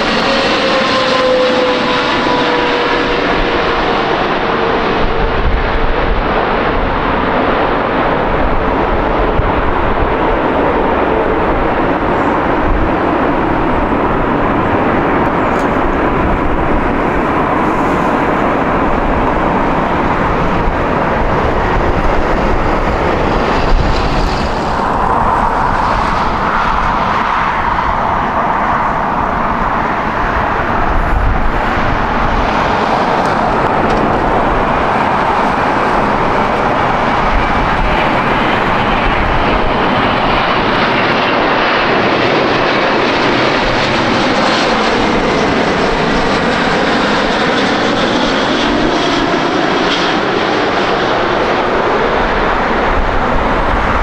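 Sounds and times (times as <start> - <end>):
jet airliner engines roaring: 0.0 - 54.0.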